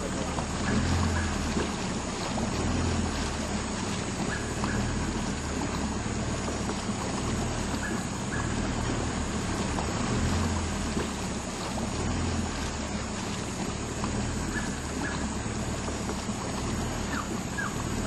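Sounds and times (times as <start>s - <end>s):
boat motor humming: 0.0s - 18.0s
wind and water rushing: 0.0s - 18.0s.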